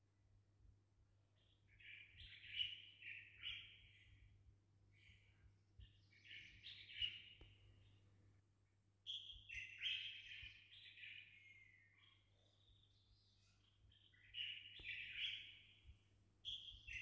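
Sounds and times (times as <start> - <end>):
small birds chirping: 1.3 - 17.0.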